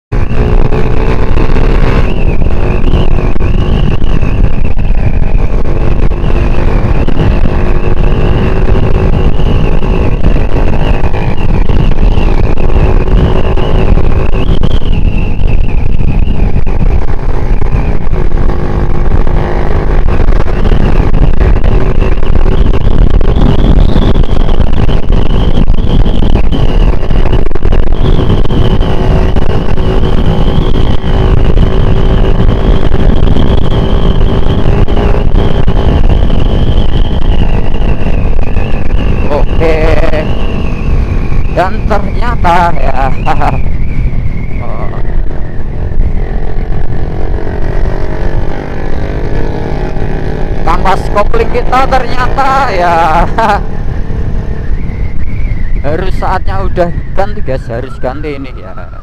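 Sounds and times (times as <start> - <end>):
motorcycle engine running: 0.1 - 59.0.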